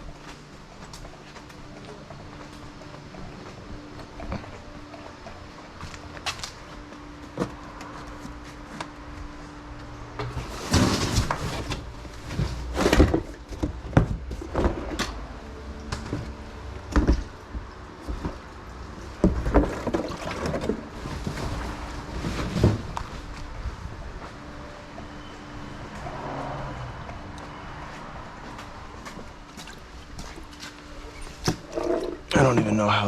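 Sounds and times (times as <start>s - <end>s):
objects clunking and scraping: 0.2s - 33.0s.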